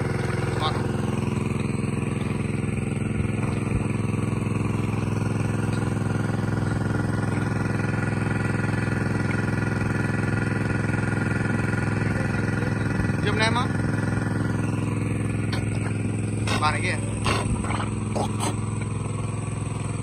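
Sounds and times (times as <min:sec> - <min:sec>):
water pump engine running: 0:00.0 - 0:20.0.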